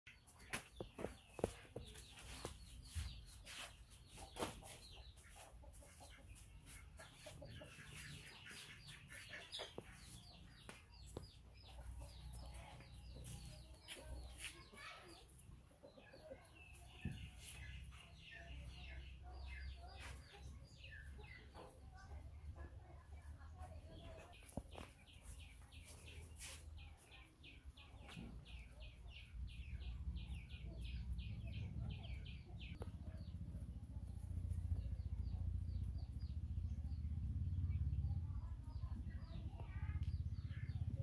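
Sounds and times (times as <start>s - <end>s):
chickens clucking: 0.1s - 41.0s.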